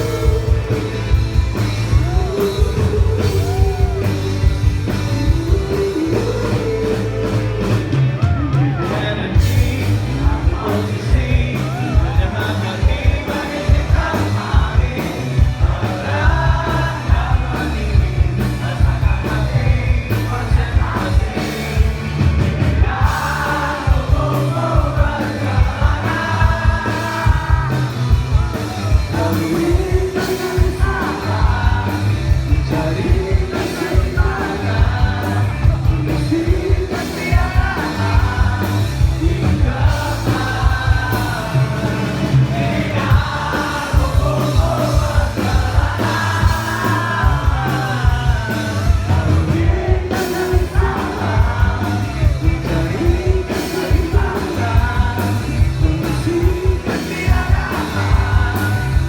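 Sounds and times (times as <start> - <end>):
lead vocal singing: 0.0 - 59.0
rock band playing: 0.0 - 59.0.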